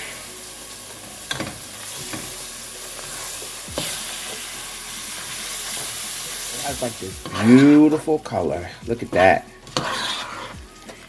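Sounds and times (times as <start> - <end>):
vegetables sizzling in a pot: 0.0 - 11.0
utensil scraping pot: 1.3 - 11.0.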